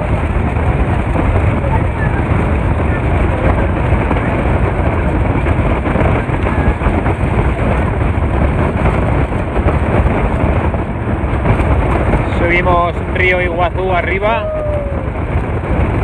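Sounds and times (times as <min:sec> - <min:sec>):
boat engine rumble: 0:00.0 - 0:16.0
water noise: 0:00.0 - 0:16.0
wind buffeting microphone: 0:00.0 - 0:16.0.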